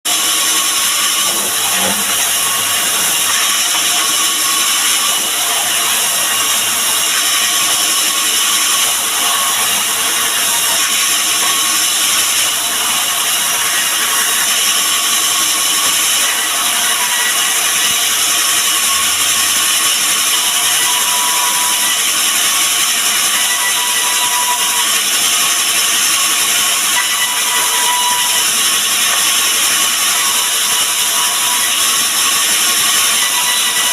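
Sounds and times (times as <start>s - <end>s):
power tool machining wood: 0.1s - 33.9s.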